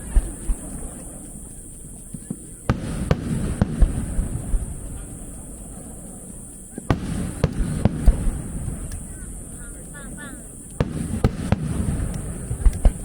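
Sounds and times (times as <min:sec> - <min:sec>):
fireworks bursting with rumbling echo: 0:00.0 - 0:13.0.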